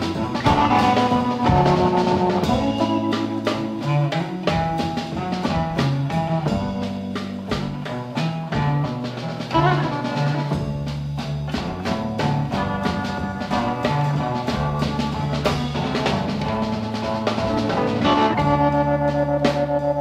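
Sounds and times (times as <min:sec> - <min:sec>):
drum kit beat: 0:00.0 - 0:20.0
electric guitar bass line: 0:00.0 - 0:20.0
lead electric guitar: 0:00.0 - 0:20.0.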